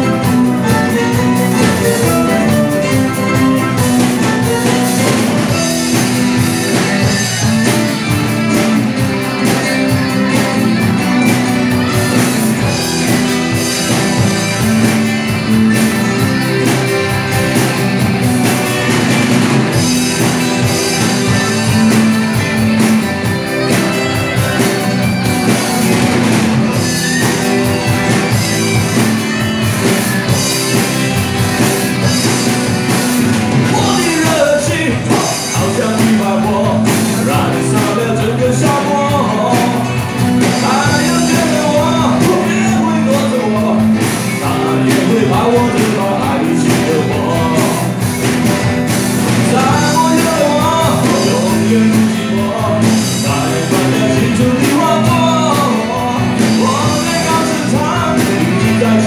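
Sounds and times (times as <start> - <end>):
lead singer singing: 0.0 - 48.4, 49.2 - 59.0
live rock band playing: 0.0 - 59.0.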